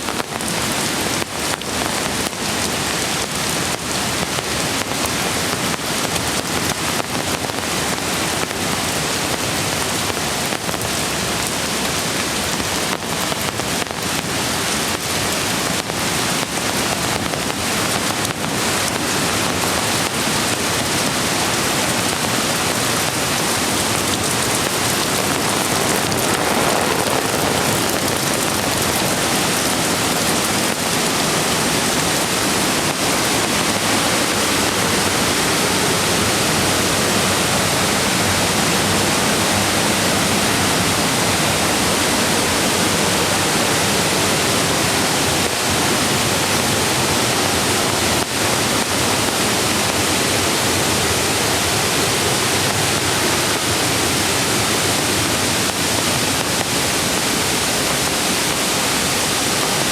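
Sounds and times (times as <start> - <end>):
rain hissing: 0.0 - 59.9
rushing mountain creek: 0.0 - 59.9.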